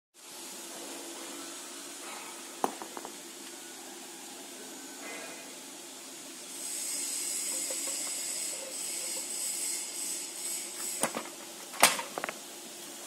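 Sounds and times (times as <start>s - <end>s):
steady high-pitched hiss: 0.2s - 13.0s.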